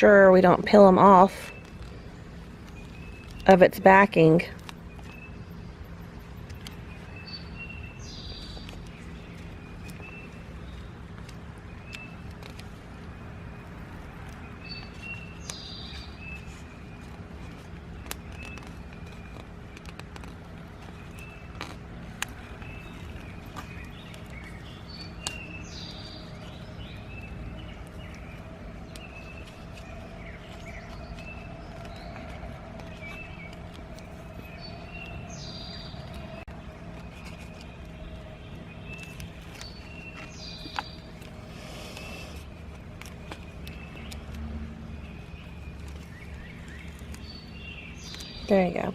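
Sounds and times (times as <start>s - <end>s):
distant traffic rumble: 0.0s - 48.9s
songbirds chirping: 0.0s - 48.9s
steady low hum: 0.0s - 48.9s.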